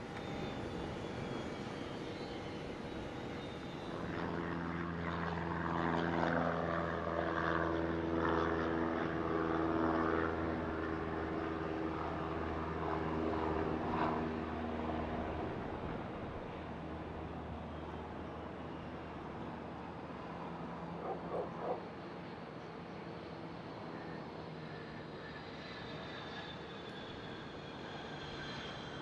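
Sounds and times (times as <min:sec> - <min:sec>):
airplane engines droning: 0:00.0 - 0:29.0.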